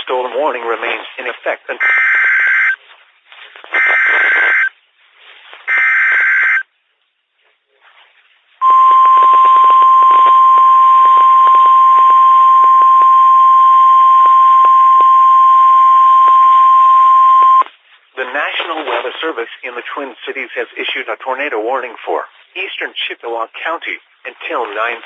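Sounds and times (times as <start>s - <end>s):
radio static and crackle: 0.0s - 4.8s, 5.5s - 6.7s, 8.6s - 25.0s.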